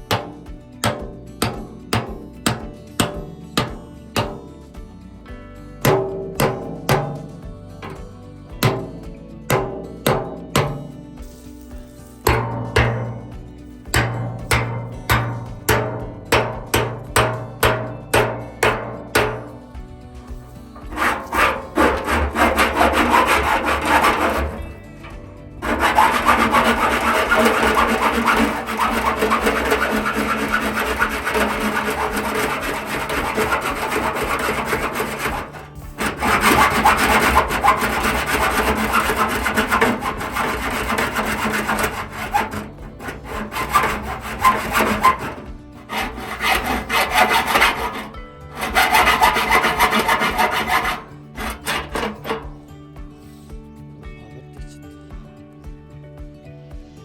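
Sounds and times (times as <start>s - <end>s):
hand saw cutting wood: 0.0s - 4.5s, 5.8s - 10.9s, 12.2s - 52.6s.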